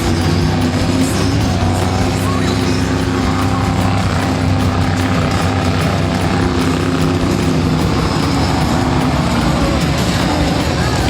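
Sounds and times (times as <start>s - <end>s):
arena music: 0.0s - 11.0s
monster truck engine drone: 0.0s - 11.0s.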